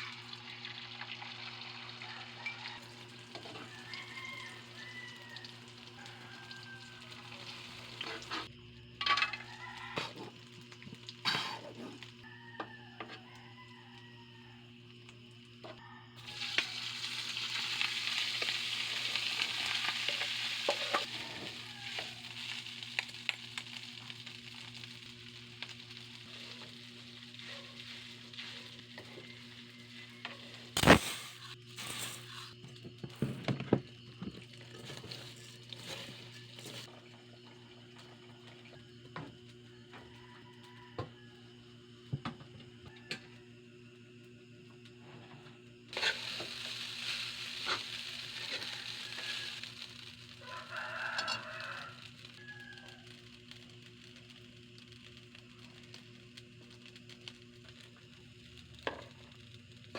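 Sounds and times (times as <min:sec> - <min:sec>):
food sizzling in hot oil: 0:00.0 - 0:14.5, 0:16.1 - 0:38.7, 0:45.9 - 0:59.9.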